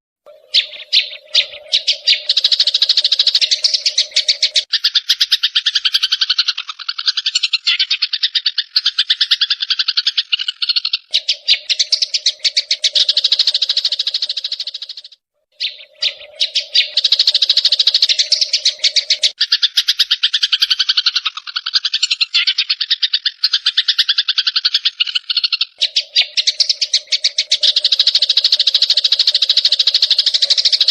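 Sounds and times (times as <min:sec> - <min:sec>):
sparrows chattering: 0:00.3 - 0:30.9.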